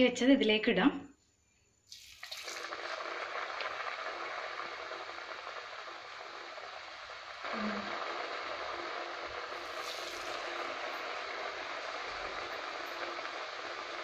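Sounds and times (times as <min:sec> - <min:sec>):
dumplings sizzling in hot oil: 0:01.9 - 0:14.0.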